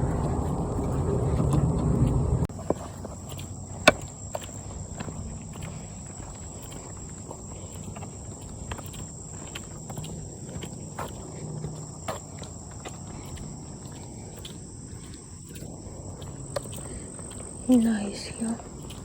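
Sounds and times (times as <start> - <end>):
footsteps on a path: 0.0 - 19.0
high-pitched insect drone: 3.1 - 19.0.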